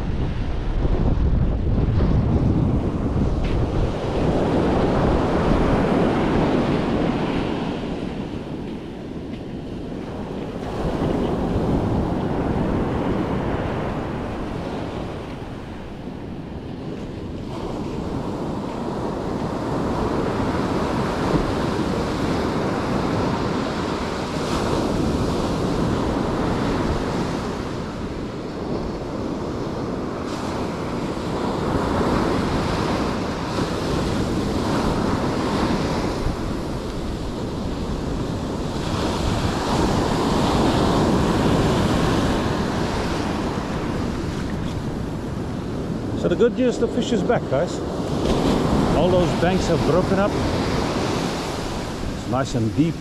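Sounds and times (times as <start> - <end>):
surf breaking on beach: 0.0 - 53.0
wind rumbling on microphone: 0.0 - 53.0.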